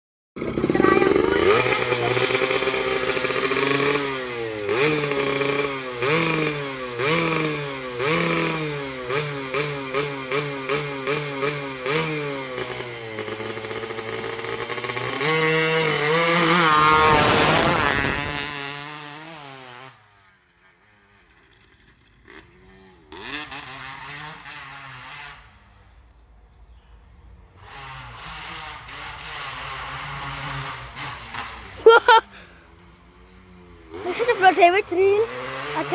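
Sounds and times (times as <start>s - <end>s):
motorcycle engine revving: 0.4s - 26.2s, 27.2s - 35.9s.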